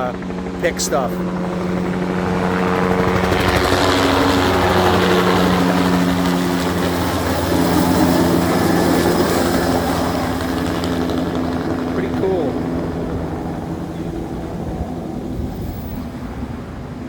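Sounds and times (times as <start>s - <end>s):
helicopter rotor and engine drone: 0.0s - 17.0s.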